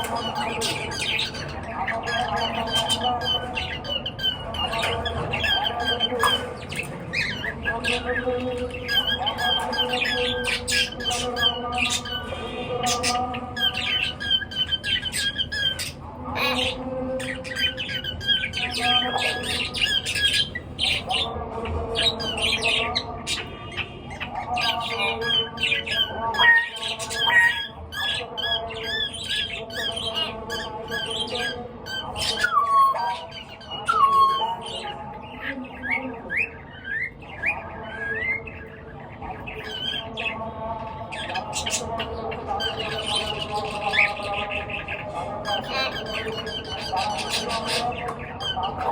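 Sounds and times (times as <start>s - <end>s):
cage birds chirping and squawking: 0.0s - 48.9s.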